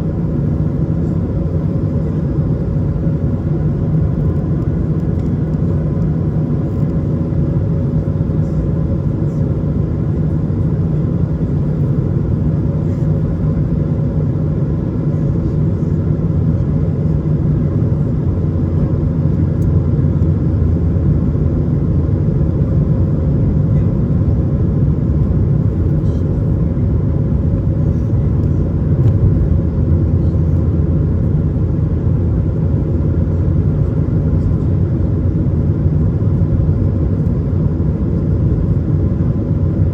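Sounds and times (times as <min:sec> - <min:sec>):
aircraft cabin rumble: 0:00.0 - 0:39.9
faint steady hum: 0:00.0 - 0:39.9.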